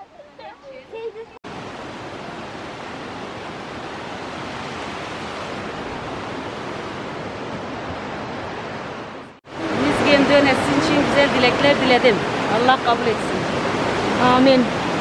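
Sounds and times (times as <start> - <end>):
flowing spring water: 1.4 - 15.0.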